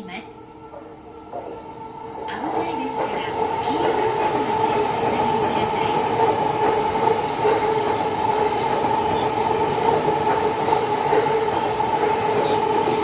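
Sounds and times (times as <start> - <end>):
train wheel-on-rail noise: 0.0 - 13.0
two-tone whine: 0.0 - 13.0.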